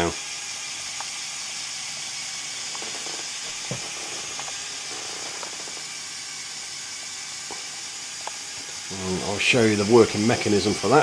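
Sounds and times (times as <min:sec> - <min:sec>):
toy motor whirring: 0:00.0 - 0:11.0.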